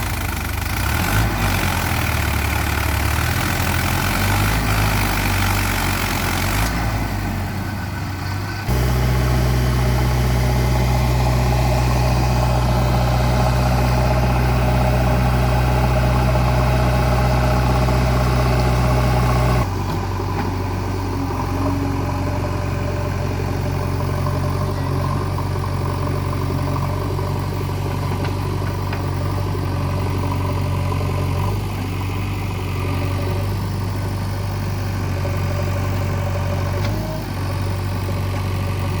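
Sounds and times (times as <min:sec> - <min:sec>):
heavy diesel engines running: 0:00.0 - 0:39.0.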